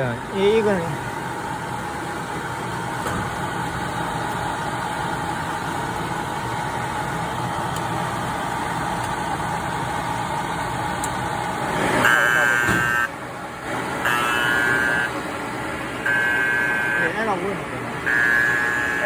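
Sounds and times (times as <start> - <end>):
dryer blower humming: 0.0 - 19.0
faint steady whine: 0.0 - 19.0.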